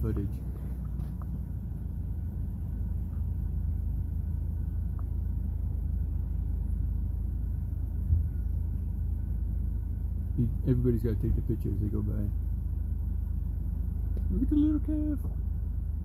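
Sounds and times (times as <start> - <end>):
faint steady whine: 0.0 - 16.0
vehicle rumble from inside cab: 0.0 - 16.0.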